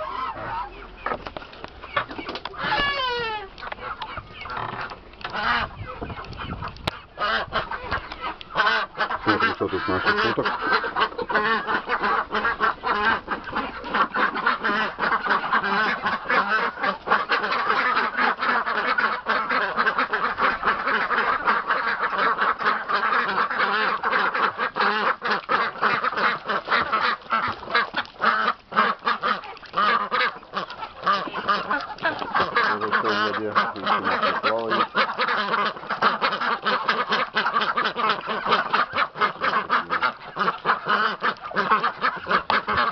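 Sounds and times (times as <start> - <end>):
ducks quacking: 0.0 - 42.9.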